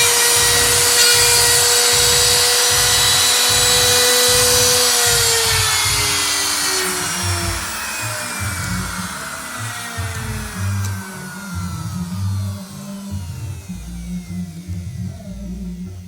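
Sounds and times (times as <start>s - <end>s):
router spindle motor whining: 0.0s - 16.0s.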